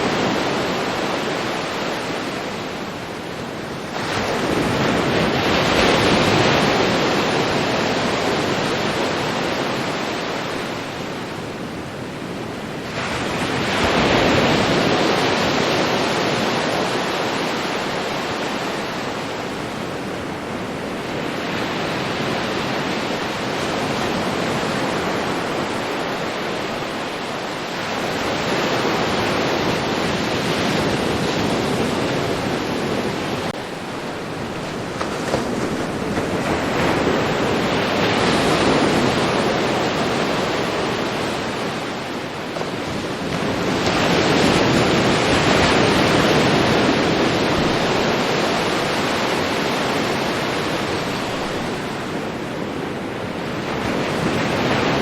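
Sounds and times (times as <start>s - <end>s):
ocean surf washing onto beach: 0.0s - 55.0s.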